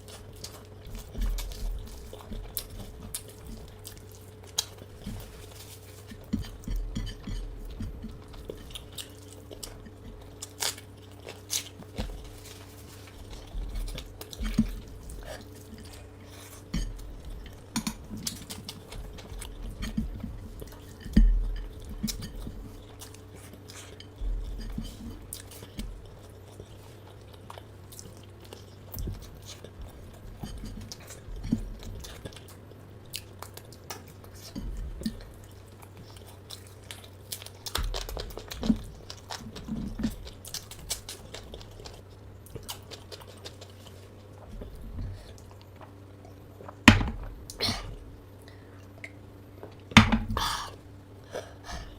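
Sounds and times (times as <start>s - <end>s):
chewing and eating: 0.0s - 51.9s
steady low hum: 0.0s - 51.9s.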